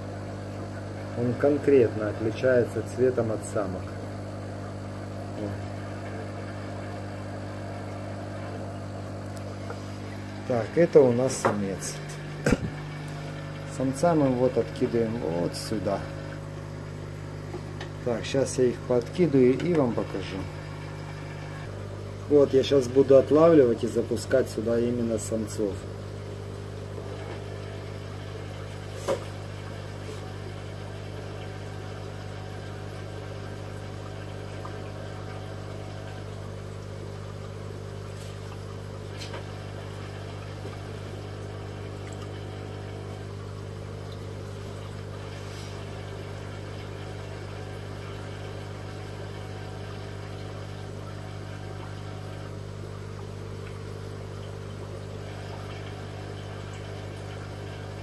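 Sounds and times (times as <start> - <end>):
aquarium air pump humming: 0.0 - 58.0.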